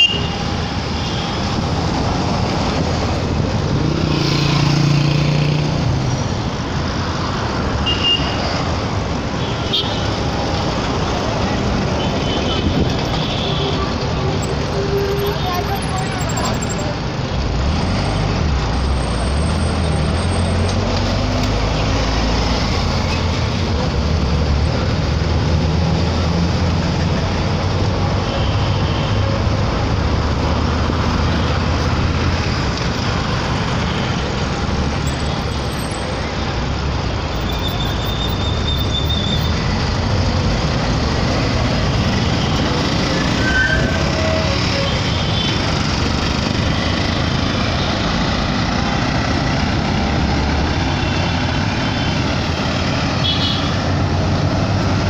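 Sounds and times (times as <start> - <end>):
traffic engine hum and road noise: 0.0 - 55.0.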